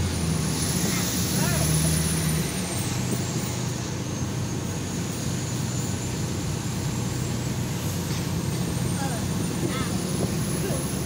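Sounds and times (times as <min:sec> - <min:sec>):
fire truck diesel engine running: 0:00.0 - 0:11.0
road and cab noise: 0:00.0 - 0:11.0.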